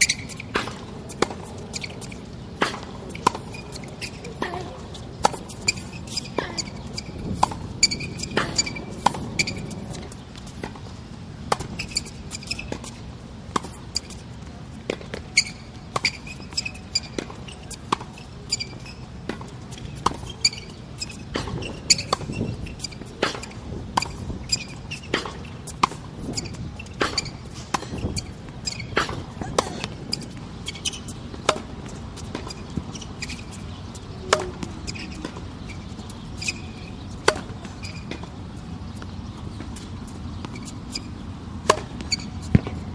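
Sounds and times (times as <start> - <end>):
sneakers squeaking on court: 0.0 - 42.9
tennis balls struck by rackets: 0.0 - 42.9.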